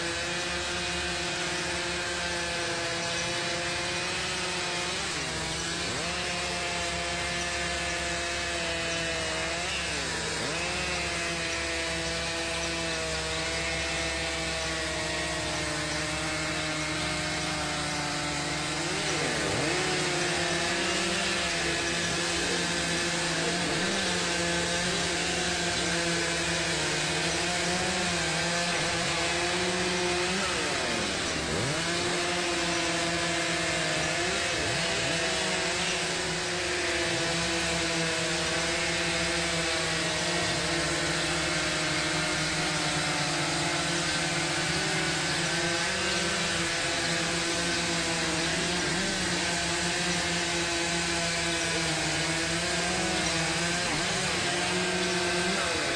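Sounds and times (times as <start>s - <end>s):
chainsaw cutting log: 0.0s - 55.9s.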